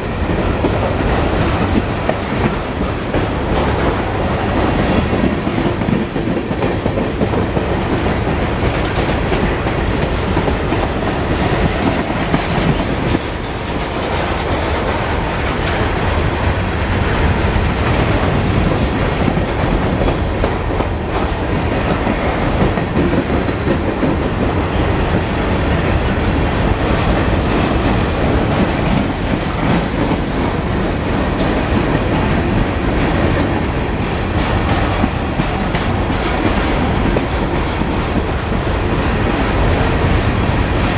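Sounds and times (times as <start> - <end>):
clickety-clack over rail joints: 0.0 - 40.9
train wheels rumbling on rail: 0.0 - 40.9.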